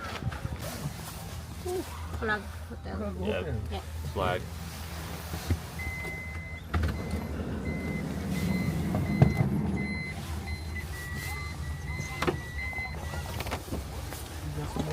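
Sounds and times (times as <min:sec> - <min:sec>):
car engine running: 0:00.3 - 0:14.9.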